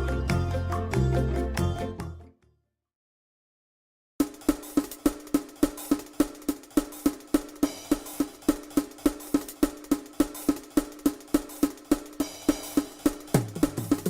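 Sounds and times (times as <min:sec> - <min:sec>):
music with wood-block percussion: 0:00.0 - 0:02.3, 0:04.2 - 0:14.0.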